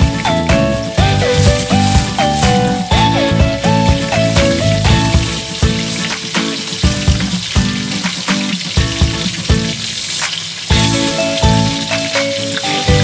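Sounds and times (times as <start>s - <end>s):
background music: 0.0s - 13.0s
hot dogs sizzling in oil: 0.0s - 13.0s.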